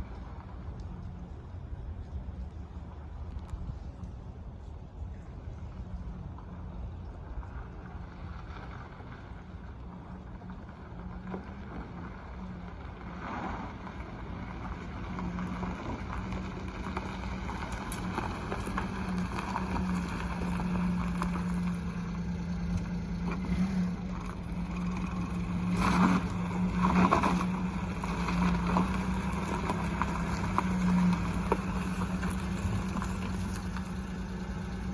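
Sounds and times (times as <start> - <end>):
truck engine humming: 0.0 - 34.9.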